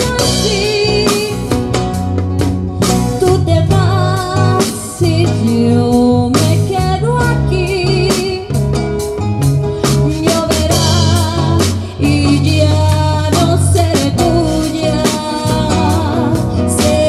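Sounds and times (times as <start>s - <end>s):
woman singing with vibrato: 0.0s - 1.8s, 3.0s - 8.8s, 9.8s - 17.0s
acoustic guitar: 0.0s - 17.0s
bass notes: 0.0s - 17.0s
steady drum beat: 0.0s - 17.0s.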